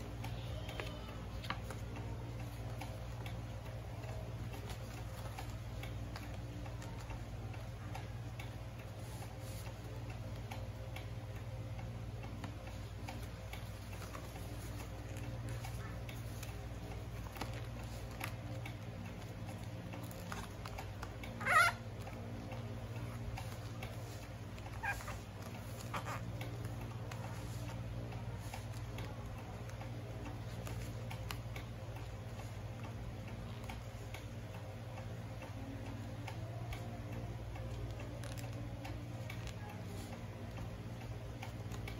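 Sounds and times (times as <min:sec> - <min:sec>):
small clicks: 0:00.0 - 0:41.9
steady low hum: 0:00.0 - 0:41.9.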